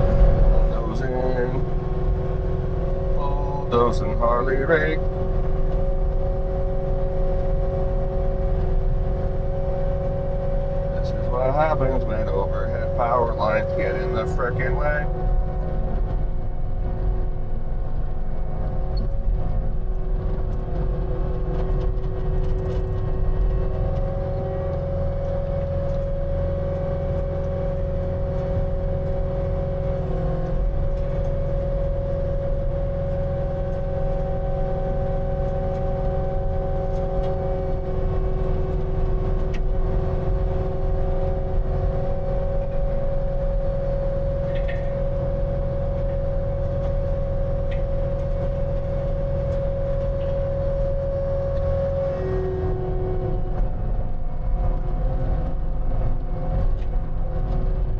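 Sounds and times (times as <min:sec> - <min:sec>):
skid steer engine drone: 0:00.0 - 0:57.9
steady whine: 0:00.0 - 0:57.9.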